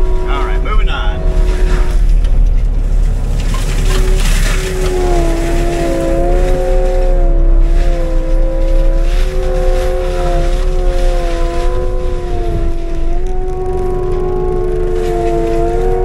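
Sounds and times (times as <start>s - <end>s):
forestry mulcher engine rumble: 0.0s - 16.0s
mulcher head whine: 0.0s - 16.0s.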